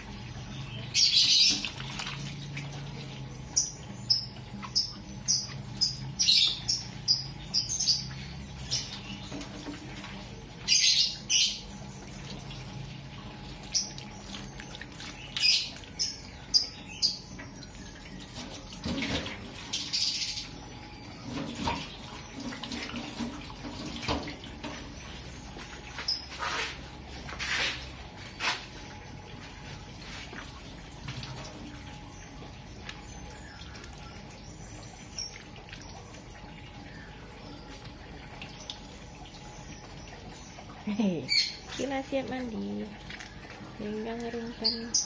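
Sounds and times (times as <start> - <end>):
water splashing in metal sink: 0.0 - 45.0.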